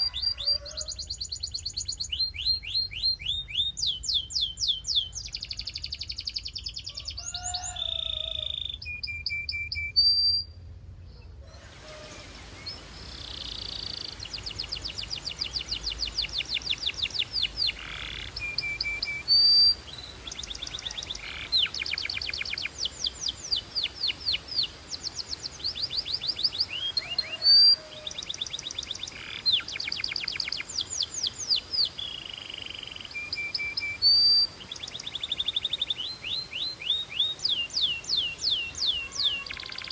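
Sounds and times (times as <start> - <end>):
canary singing trills: 0.0 - 10.5, 11.6 - 39.9.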